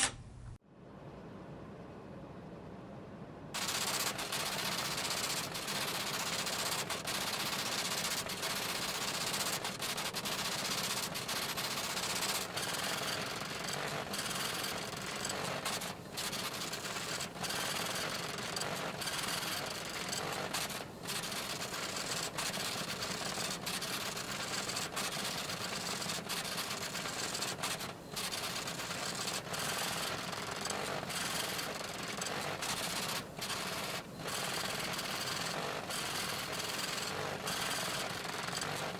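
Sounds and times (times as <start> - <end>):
typing sound effect clatter: 3.6 - 38.9.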